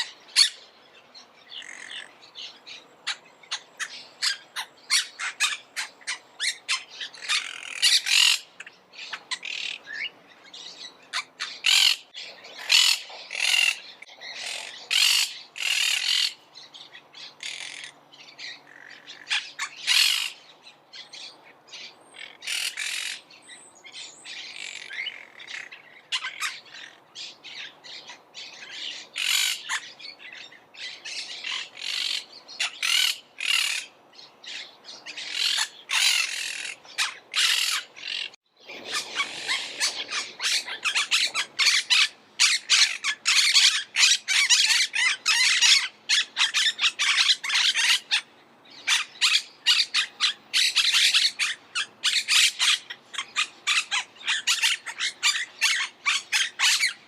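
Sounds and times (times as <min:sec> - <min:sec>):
parakeets squawking: 0:00.0 - 0:00.7, 0:01.5 - 0:20.5, 0:22.2 - 0:23.3, 0:24.3 - 0:57.0.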